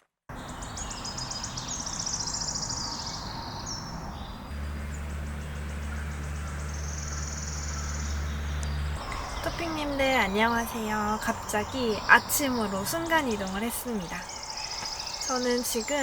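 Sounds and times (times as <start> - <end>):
birds and insects trilling: 0.3 - 16.0
steady low hum: 0.6 - 16.0.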